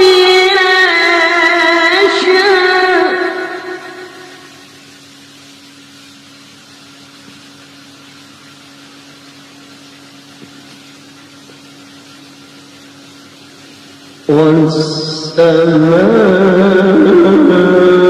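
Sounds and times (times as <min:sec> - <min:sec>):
background hum and hiss: 0:00.0 - 0:18.0.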